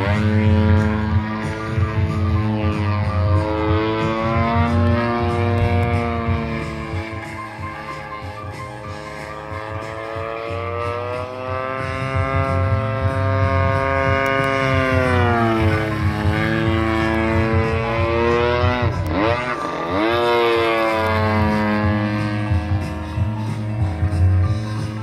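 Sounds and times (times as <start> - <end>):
model plane engine revving: 0.0 - 25.0.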